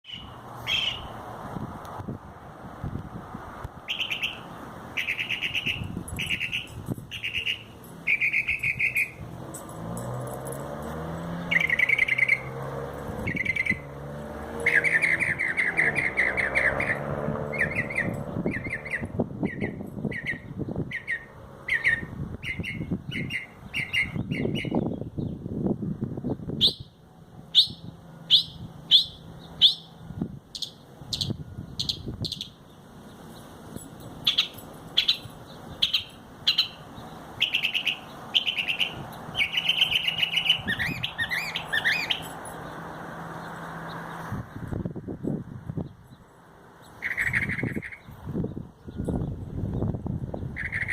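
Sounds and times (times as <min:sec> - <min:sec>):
bird singing trills and chirps: 0:00.0 - 0:01.1, 0:03.9 - 0:10.2, 0:11.2 - 0:12.6, 0:13.2 - 0:14.0, 0:14.6 - 0:25.4, 0:26.2 - 0:50.9.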